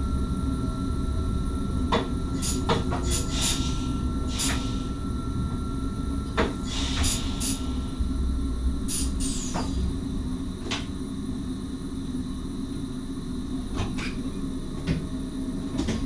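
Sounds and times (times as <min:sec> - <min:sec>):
train cab hum: 0:00.0 - 0:16.0.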